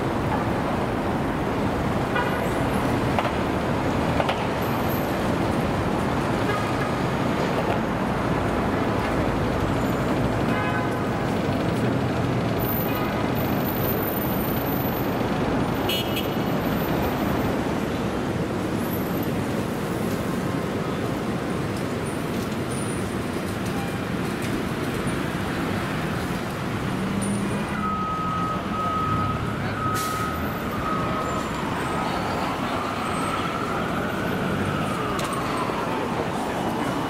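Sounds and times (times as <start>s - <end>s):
rumble of passing cars: 0.0s - 37.0s.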